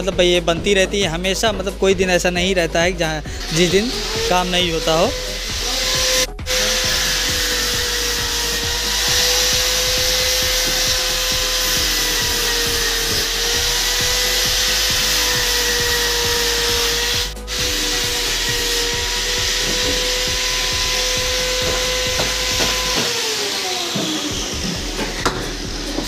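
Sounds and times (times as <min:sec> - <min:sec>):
angle grinder sanding wood: 0:02.2 - 0:26.0.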